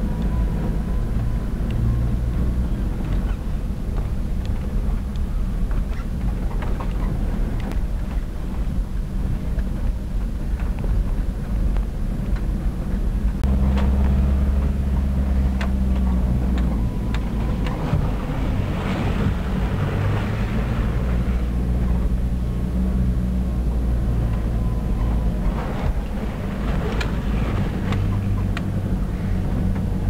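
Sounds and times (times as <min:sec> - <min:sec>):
body and suspension rattles: 0:00.0 - 0:22.4, 0:24.2 - 0:30.0
low engine drone: 0:00.0 - 0:30.0
rush of noise: 0:02.4 - 0:30.0.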